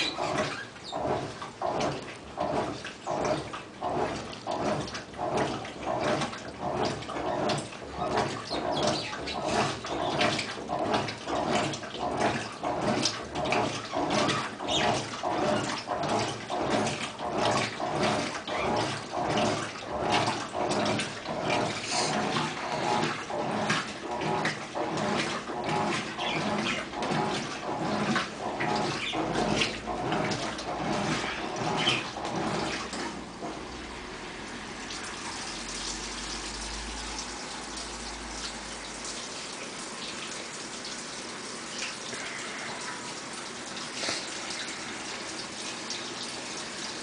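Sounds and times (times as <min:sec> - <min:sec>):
washing machine water sloshing: 0:00.0 - 0:47.0.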